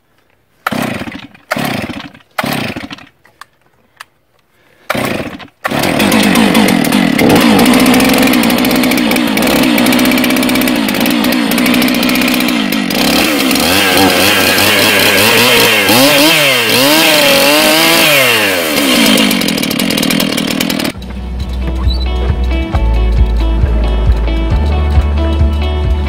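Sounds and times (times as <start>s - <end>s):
chainsaw revving: 0.6s - 3.2s, 4.8s - 25.7s.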